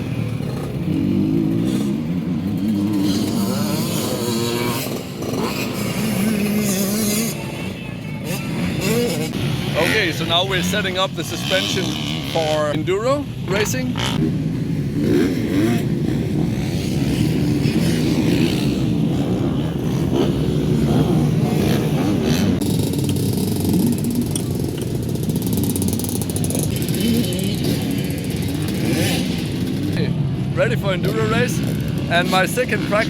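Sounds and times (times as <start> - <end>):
motocross motorcycle engines: 0.0 - 33.0.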